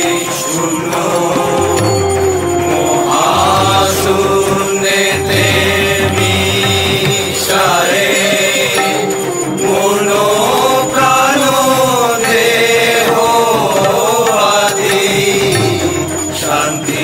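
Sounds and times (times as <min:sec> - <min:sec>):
devotional chant-like singing: 0:00.0 - 0:17.0
sustained musical accompaniment: 0:00.0 - 0:17.0.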